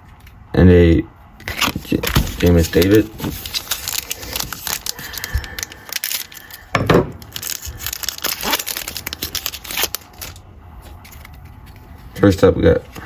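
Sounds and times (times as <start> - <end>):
card pack wrapper tearing and crinkling: 1.4 - 12.2.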